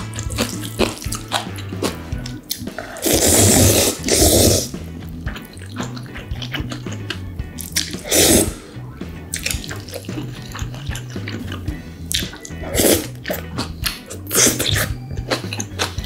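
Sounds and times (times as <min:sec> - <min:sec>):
wet chewing: 0:00.0 - 0:08.6, 0:09.2 - 0:16.0
mouth clicks: 0:00.0 - 0:16.0
person slurping noodles: 0:00.1 - 0:08.7, 0:09.3 - 0:14.9.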